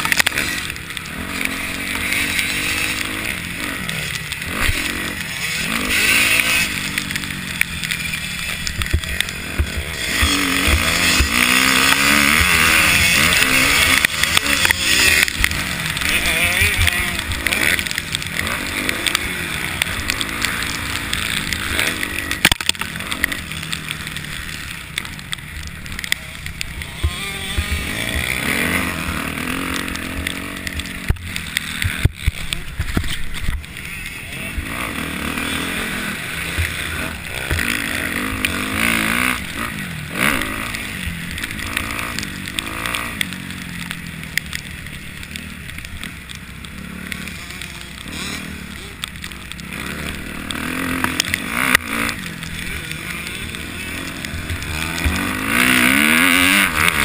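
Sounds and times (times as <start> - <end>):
dirt bikes racing past: 0.0 - 57.0.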